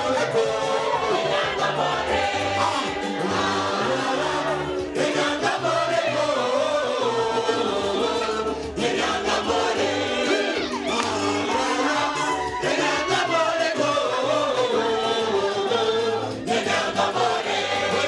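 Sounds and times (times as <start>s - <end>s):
group singing: 0.0s - 18.0s.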